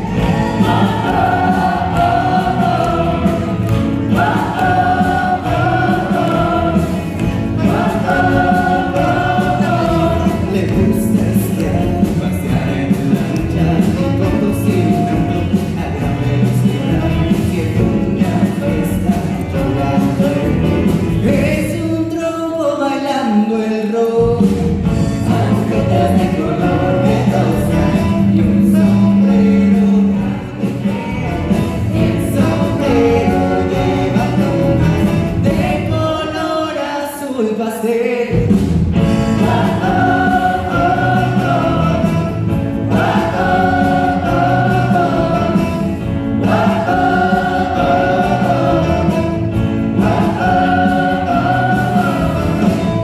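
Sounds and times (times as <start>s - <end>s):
people singing in chorus: 0.0s - 20.6s, 25.2s - 38.6s, 39.2s - 53.0s
live band playing: 0.0s - 22.2s, 24.1s - 36.7s, 38.2s - 53.0s.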